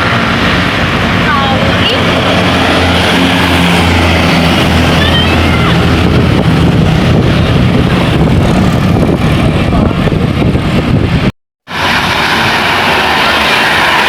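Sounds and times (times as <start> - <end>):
bus passing: 0.0 - 11.0, 11.7 - 14.0
passing traffic noise: 0.0 - 14.0.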